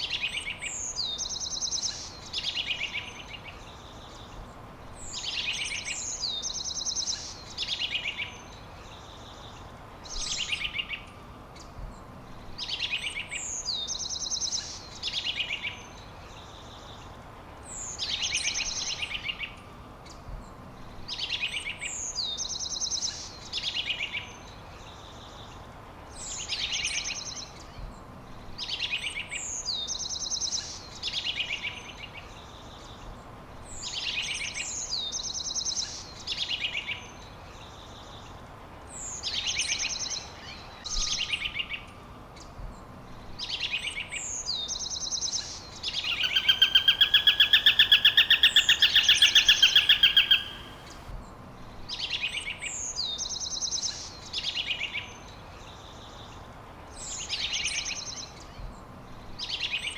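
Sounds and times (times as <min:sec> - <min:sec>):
songbird singing: 0:00.0 - 0:56.4
faint background hiss: 0:00.0 - 0:59.9.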